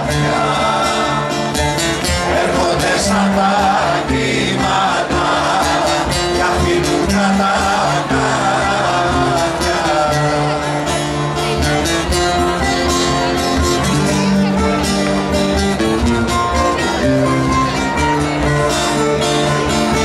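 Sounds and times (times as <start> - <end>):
guitars: 0.0 - 20.0
plucked lute: 0.0 - 20.0.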